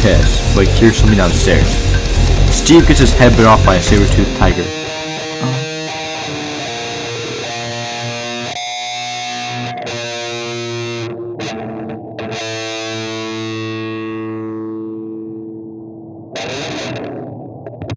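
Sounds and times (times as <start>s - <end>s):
distorted electric guitar chords: 0.0s - 17.9s.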